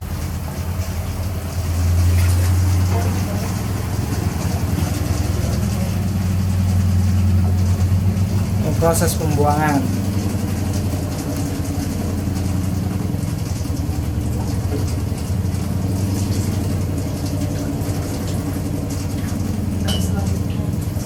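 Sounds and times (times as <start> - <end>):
washing machine drain pump hum: 0.0 - 21.0.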